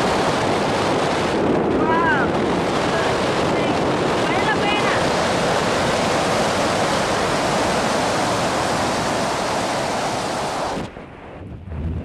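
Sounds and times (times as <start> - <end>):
freefall wind buffeting microphone: 0.0 - 12.0.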